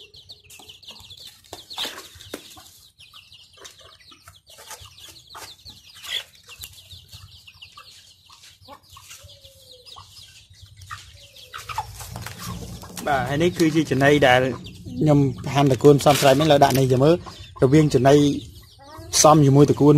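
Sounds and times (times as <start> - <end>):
low chicken cluck: 0.0 - 19.0
chicks peeping: 0.0 - 19.9.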